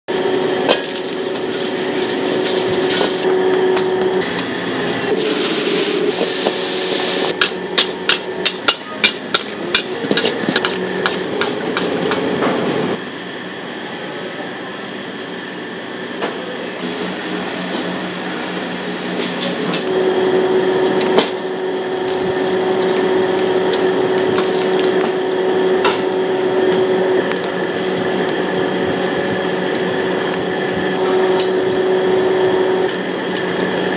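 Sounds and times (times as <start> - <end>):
steady hum: 0.1 - 33.9.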